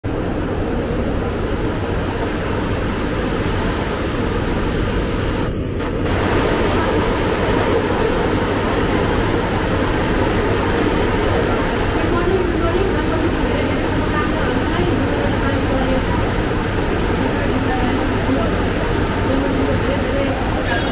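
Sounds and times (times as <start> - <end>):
heavy rain falling: 0.1 - 20.9.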